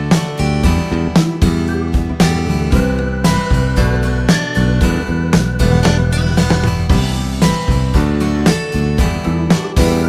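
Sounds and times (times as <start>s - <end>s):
strummed guitar music: 0.0s - 10.0s.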